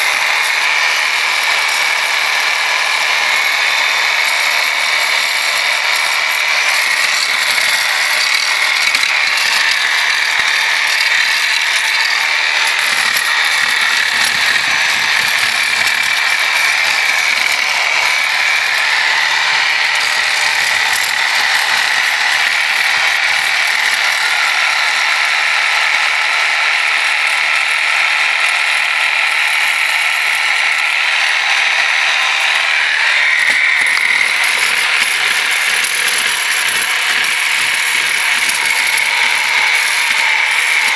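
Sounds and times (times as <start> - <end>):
reciprocating saw whining and rattling: 0.0 - 40.9.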